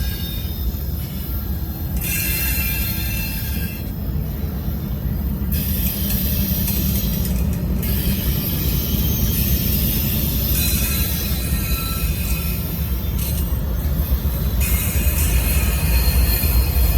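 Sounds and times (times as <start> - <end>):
high-pitched wheel squeal: 0.0 - 4.0, 5.5 - 16.9
train wheels rumbling on rails: 0.0 - 16.9.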